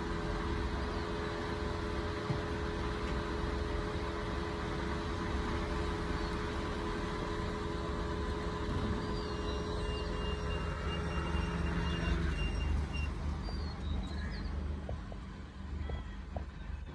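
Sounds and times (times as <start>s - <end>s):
car engine low rumble: 0.0s - 16.9s.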